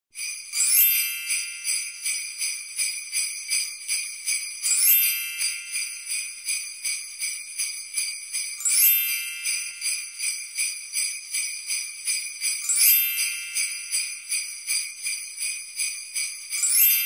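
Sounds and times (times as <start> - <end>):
sleigh bells shaken: 0.2 - 17.0.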